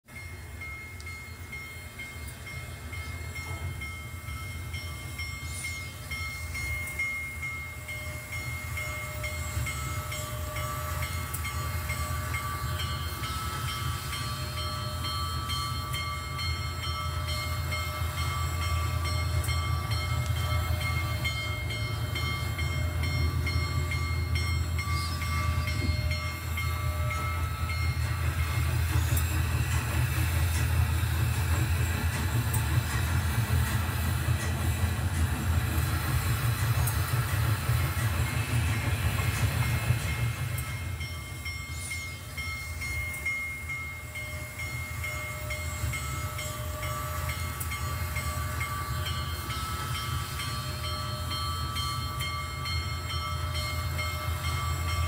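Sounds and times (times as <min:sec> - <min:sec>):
model train rumbling: 0:00.1 - 0:55.0.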